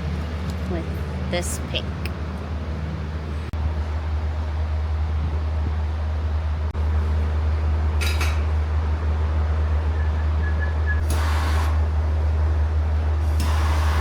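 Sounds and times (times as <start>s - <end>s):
furnace and blowers roaring: 0.0s - 14.0s.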